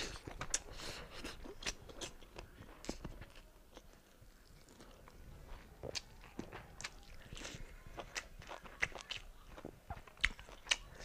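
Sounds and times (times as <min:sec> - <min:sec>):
person chewing with wet smacking: 0:00.0 - 0:11.0.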